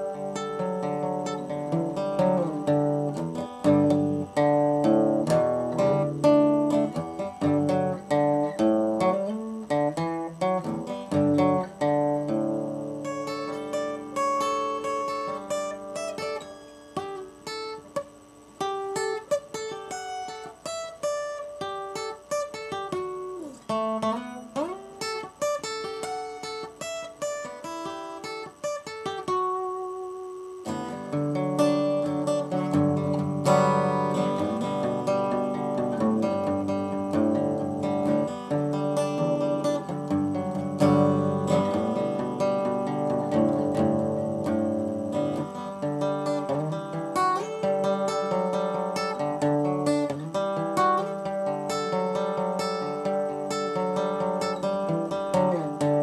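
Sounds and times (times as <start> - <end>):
acoustic guitar picking and strumming: 0.0 - 56.0.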